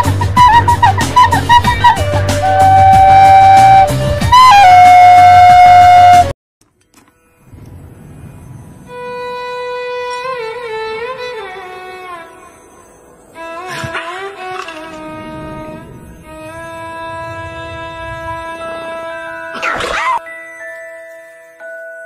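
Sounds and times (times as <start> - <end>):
flute-like tone: 0.0 - 6.3, 8.3 - 20.3
soft instrumental music with violin: 0.0 - 22.0.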